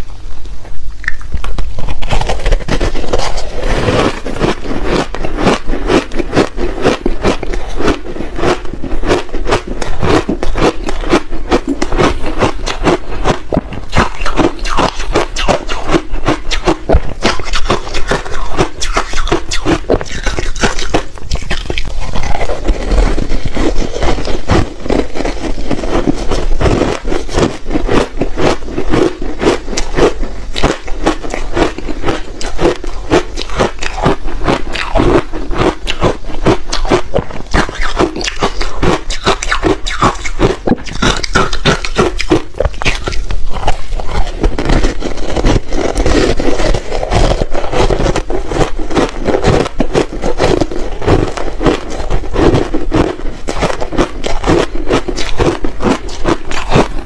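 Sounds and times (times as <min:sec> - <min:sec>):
ice crunching being chewed: 0:01.0 - 0:57.0.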